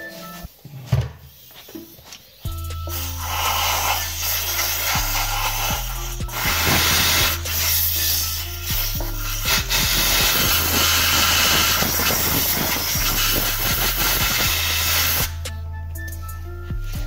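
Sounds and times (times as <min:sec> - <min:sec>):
compressed air hissing from blow gun: 0:01.2 - 0:15.4.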